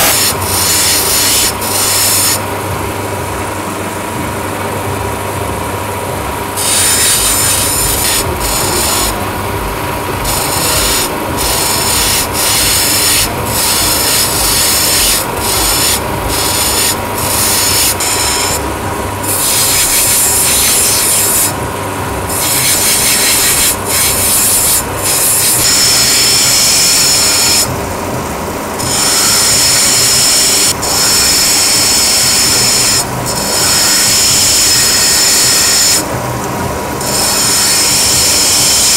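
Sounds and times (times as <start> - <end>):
grinding machine humming: 0.0 - 38.9.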